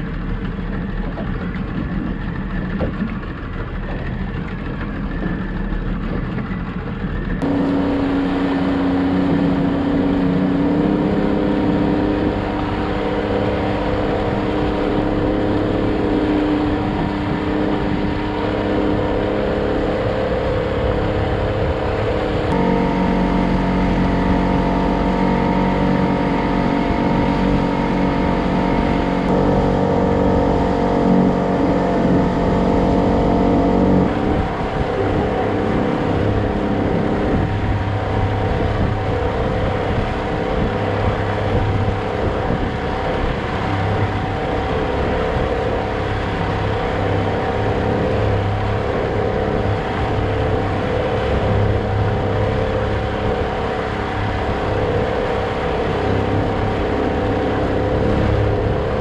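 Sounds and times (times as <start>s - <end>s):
motorboat engine running: 0.0s - 59.0s
water noise: 0.0s - 59.0s
wind noise: 0.0s - 59.0s.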